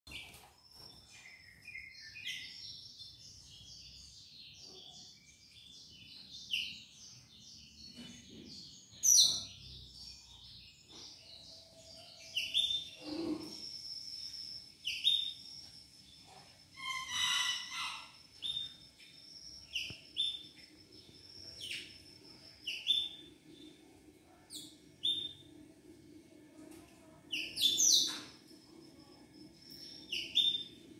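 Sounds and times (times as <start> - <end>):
canary singing twittering song: 0.1 - 25.6, 27.0 - 30.9.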